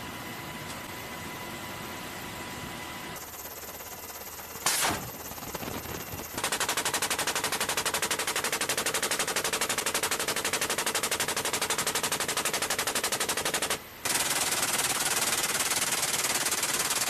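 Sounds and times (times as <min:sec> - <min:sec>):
helicopter engine and rotor: 0:00.0 - 0:17.0
machine gun firing: 0:03.3 - 0:17.0.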